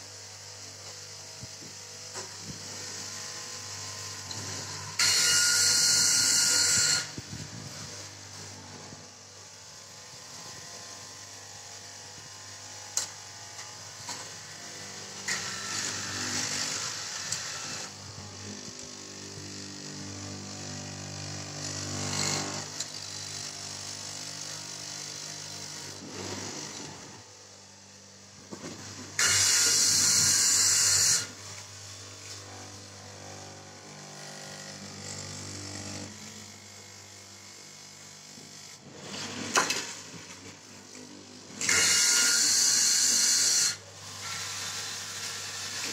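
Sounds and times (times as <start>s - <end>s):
cutting machine motor hum: 0.2s - 45.9s.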